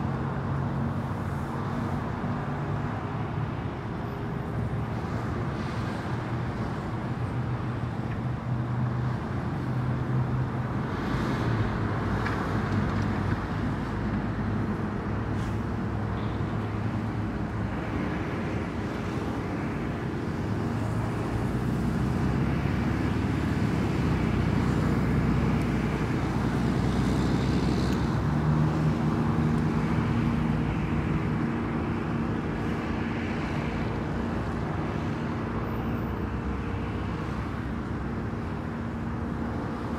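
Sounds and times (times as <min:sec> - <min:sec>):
cars and trucks passing: 0:00.0 - 0:39.9.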